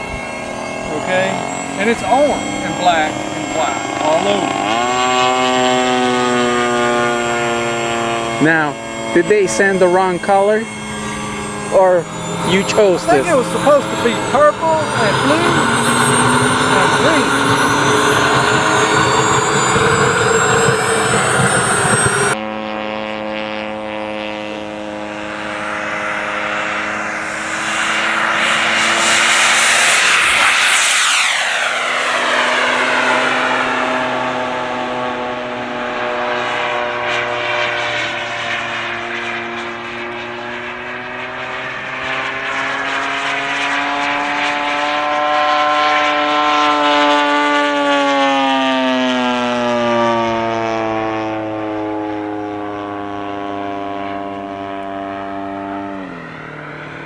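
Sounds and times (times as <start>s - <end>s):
model airplane motor: 0.0s - 57.0s.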